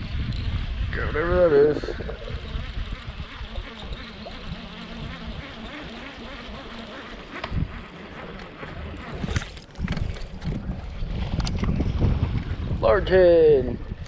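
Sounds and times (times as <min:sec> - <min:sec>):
wind: 0:00.0 - 0:14.0
water noise: 0:00.6 - 0:12.8.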